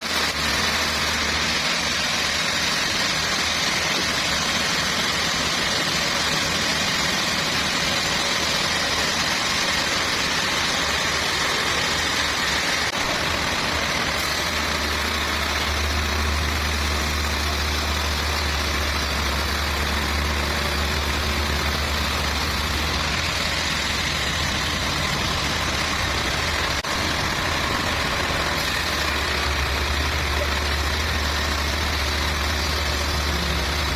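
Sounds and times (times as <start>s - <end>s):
engine hum: 0.0s - 33.9s.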